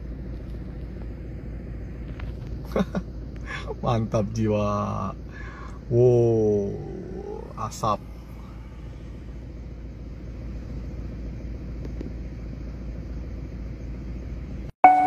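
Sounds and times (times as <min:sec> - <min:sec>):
distant vehicle engine rumbling: 0:00.0 - 0:14.7.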